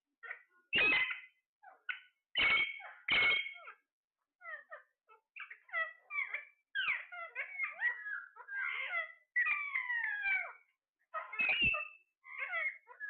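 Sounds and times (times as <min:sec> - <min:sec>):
parrot squawking and chirping: 0:00.2 - 0:03.8, 0:04.4 - 0:13.0.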